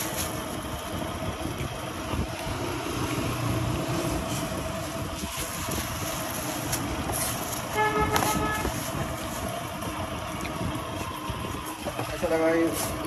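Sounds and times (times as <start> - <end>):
road traffic noise: 0.0 - 13.0
vehicle engine running: 0.0 - 13.0.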